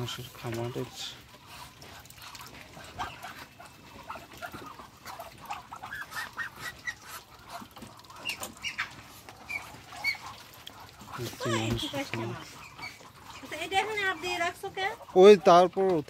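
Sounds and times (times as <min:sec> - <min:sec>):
ducks peeping: 0:00.0 - 0:16.0.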